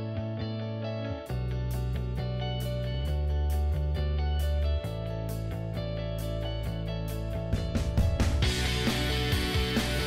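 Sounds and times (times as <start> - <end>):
plucked guitar: 0.0 - 10.0
steady bass: 0.0 - 10.0
regular beat: 1.6 - 10.0.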